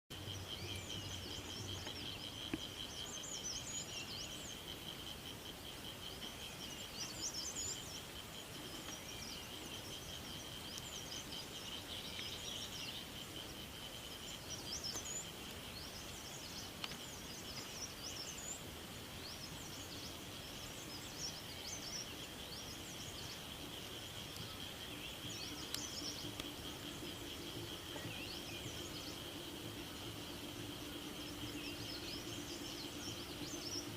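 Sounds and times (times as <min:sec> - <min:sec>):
insect trill: 0:00.1 - 0:33.9
songbirds chirping: 0:00.1 - 0:33.9.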